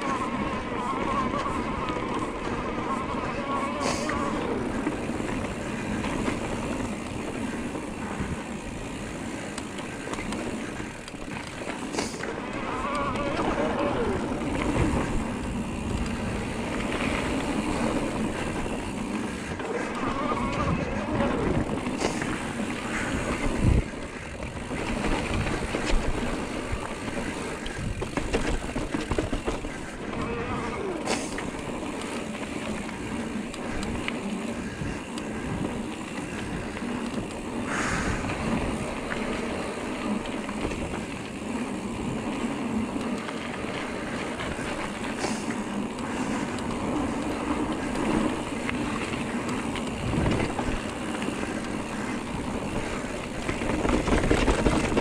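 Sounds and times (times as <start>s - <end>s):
bike tyres rolling on dirt: 0.0s - 55.0s.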